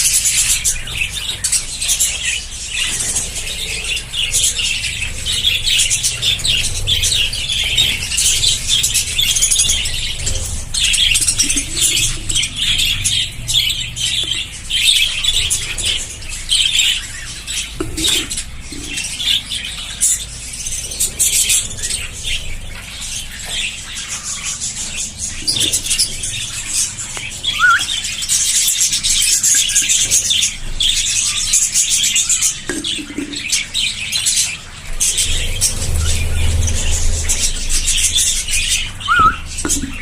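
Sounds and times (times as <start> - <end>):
budgerigars chattering and chirping: 0.0 - 40.0.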